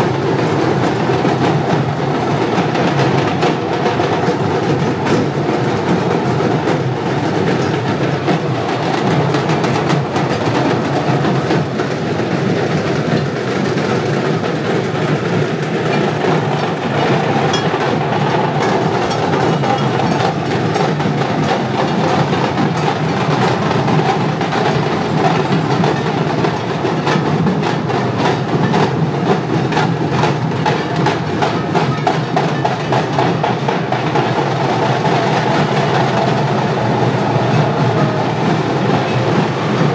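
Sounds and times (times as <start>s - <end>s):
percussion procession music: 0.0s - 39.9s.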